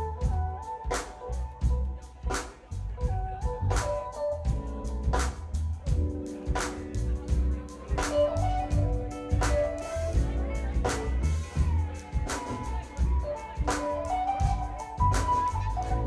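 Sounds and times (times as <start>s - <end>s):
drums keeping a beat: 0.0s - 16.0s
keyboard chords: 0.0s - 16.0s
electric bass line: 1.2s - 2.0s, 2.8s - 16.0s.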